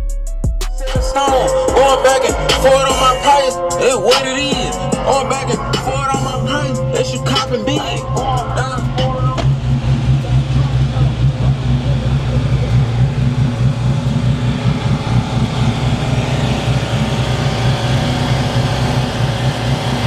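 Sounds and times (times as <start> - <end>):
car engine and road noise: 0.7 - 20.0.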